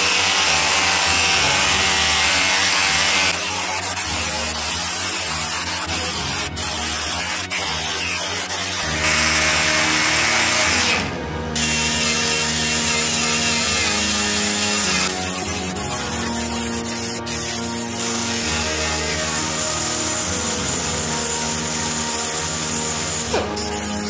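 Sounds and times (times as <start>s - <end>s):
air die grinder: 0.0s - 24.0s
air sander on sheet steel: 0.0s - 24.0s.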